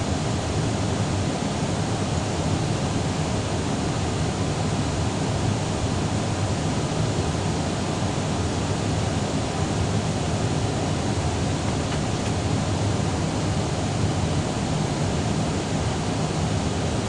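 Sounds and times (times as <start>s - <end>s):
airliner cabin rumble and hiss: 0.0s - 17.0s.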